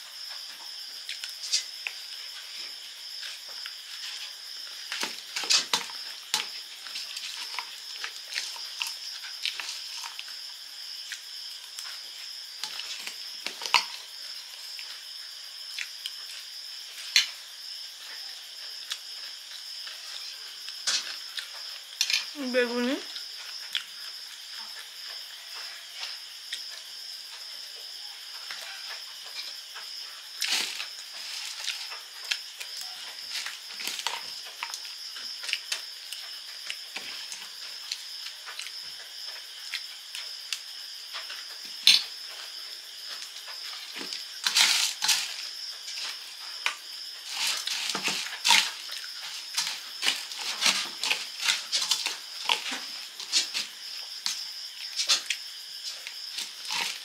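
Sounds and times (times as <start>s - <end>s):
crunching and chewing food: 0.0s - 22.4s, 23.0s - 57.0s.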